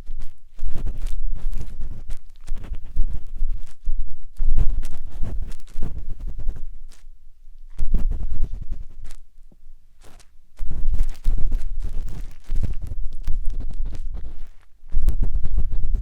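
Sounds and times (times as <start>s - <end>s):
matchstick scratching microphone: 0.0s - 7.1s, 7.7s - 9.3s, 10.0s - 16.0s.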